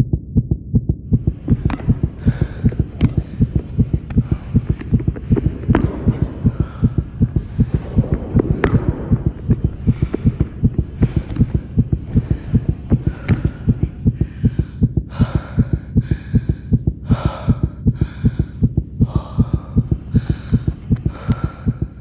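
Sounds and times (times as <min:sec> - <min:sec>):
fast heartbeat thumping: 0:00.0 - 0:22.0
quick heavy breaths: 0:01.3 - 0:22.0.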